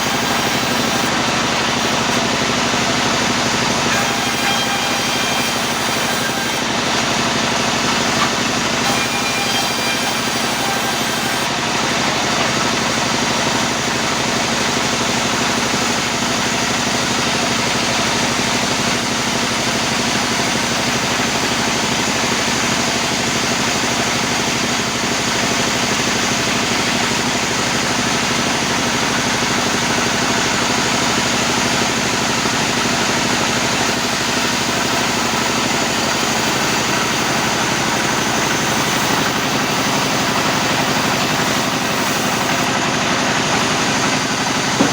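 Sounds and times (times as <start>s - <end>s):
sawmill machinery running: 0.0s - 44.9s.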